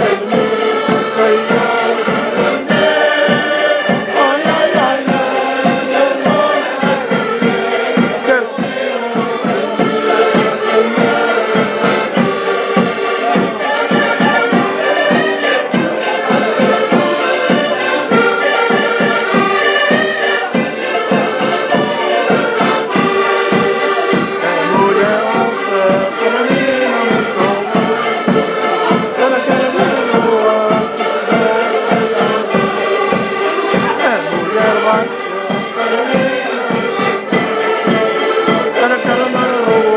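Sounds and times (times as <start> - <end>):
accordions playing folk tune: 0.0 - 39.9
bass drum beat: 0.0 - 39.9
strummed guitar: 0.0 - 39.9.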